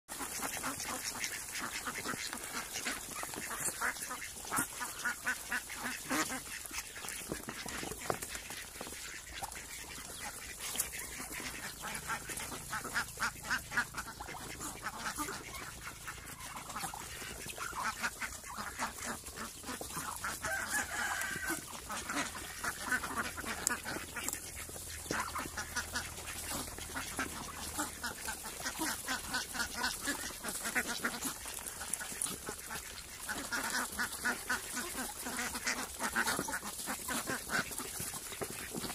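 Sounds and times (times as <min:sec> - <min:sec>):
duck bills clattering in wet feed: 0:00.1 - 0:38.9
ducks quacking: 0:00.1 - 0:38.9.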